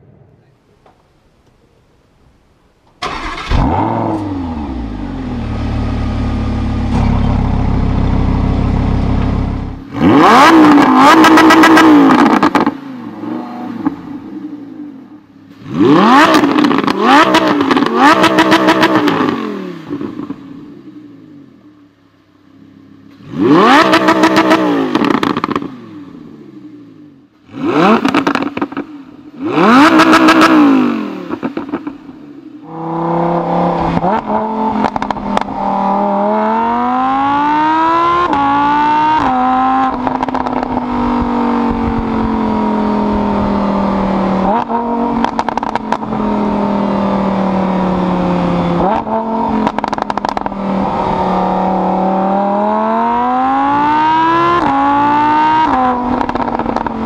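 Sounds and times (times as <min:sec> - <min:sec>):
car engine revving: 0:03.0 - 0:21.7, 0:22.4 - 0:57.0.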